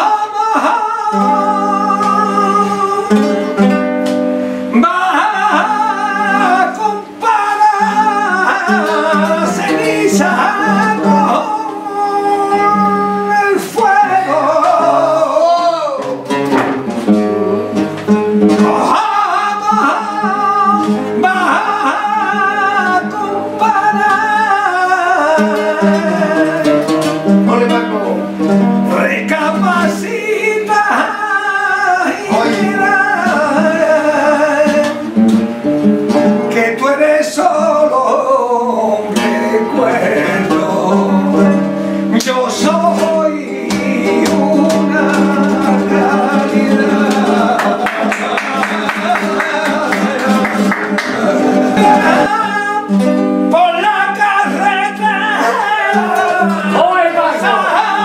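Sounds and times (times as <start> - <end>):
man singing: 0.0 - 3.8, 4.6 - 58.0
flamenco guitar: 0.0 - 58.0.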